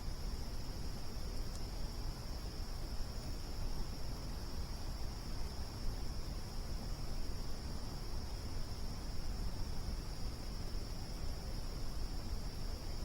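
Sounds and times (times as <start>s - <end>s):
crickets chirring: 0.0s - 13.0s
low rumbling background noise: 0.0s - 13.0s.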